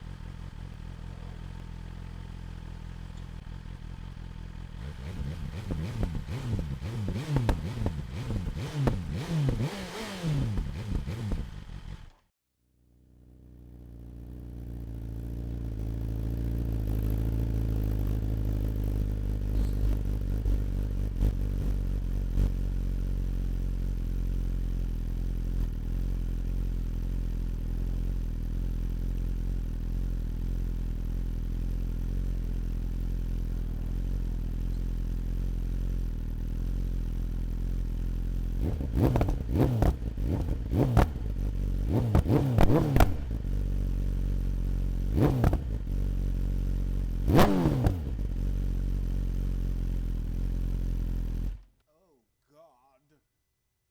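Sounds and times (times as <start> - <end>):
motorcycle engine idling and revving: 0.0 - 51.8.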